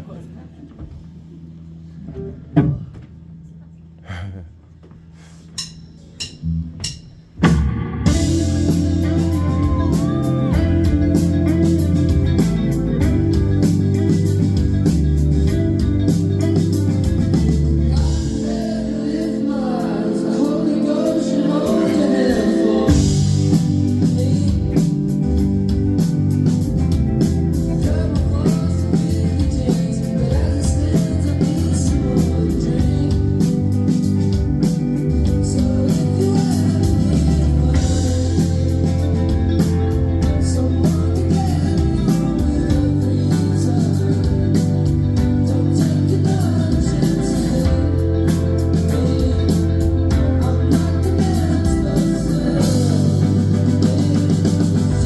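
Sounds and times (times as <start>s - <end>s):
live pop band playing: 5.6s - 55.0s
person singing: 8.0s - 14.8s, 16.2s - 26.1s, 27.5s - 55.0s.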